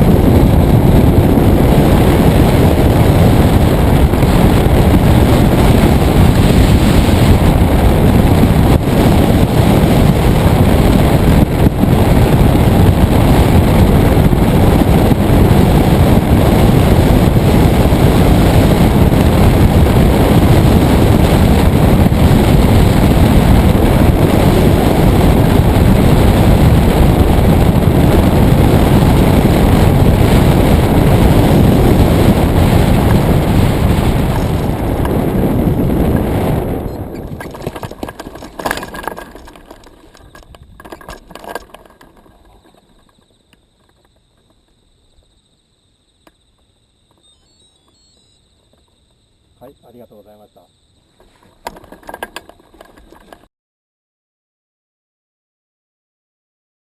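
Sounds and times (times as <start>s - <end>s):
wind rushing over microphone: 0.0s - 45.6s, 46.2s - 53.5s.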